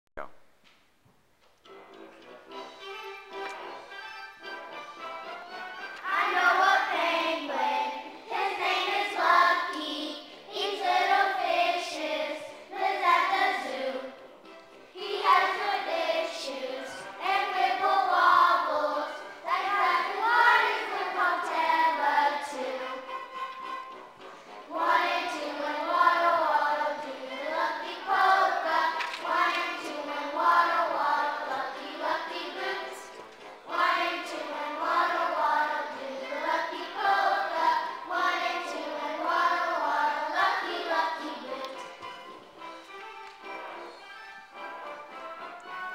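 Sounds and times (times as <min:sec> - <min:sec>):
children singing polka song: 0:01.7 - 0:45.9.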